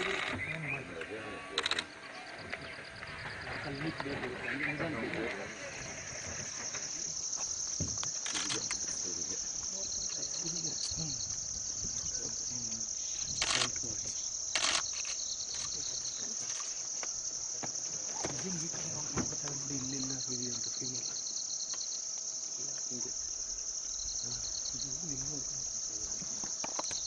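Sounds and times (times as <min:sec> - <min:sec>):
high-pitched insect chorus: 0:00.0 - 0:27.0
pulsing insect call: 0:00.0 - 0:27.0.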